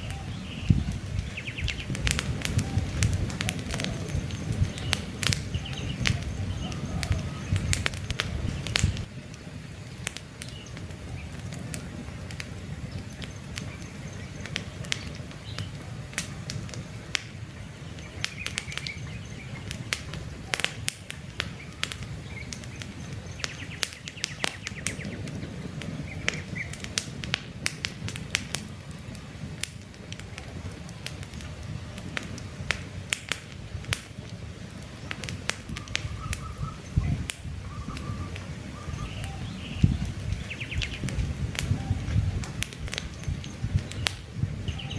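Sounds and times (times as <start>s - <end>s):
birds chirping: 0.0s - 27.2s, 34.2s - 44.9s
campfire crackling and popping: 0.0s - 44.9s.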